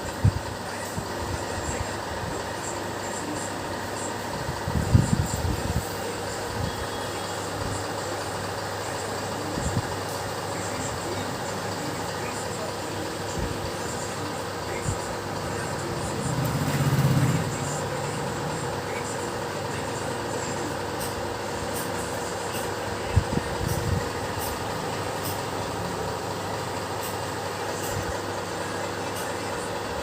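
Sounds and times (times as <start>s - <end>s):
machine humming: 0.0s - 30.0s.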